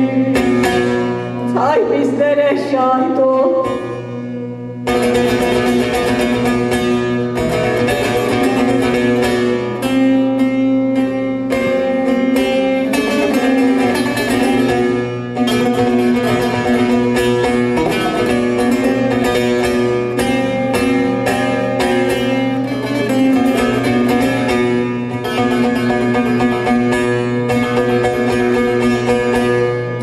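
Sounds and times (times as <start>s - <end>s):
plucked long-necked lute melody: 0.0s - 30.0s.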